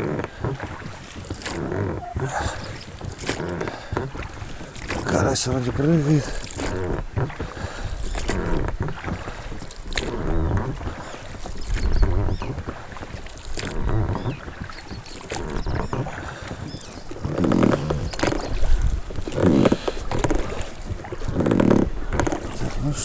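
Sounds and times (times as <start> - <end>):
knocks and low thumps: 0.0 - 23.0
water moving around boat hull: 0.0 - 23.0
wind on microphone: 0.0 - 23.0.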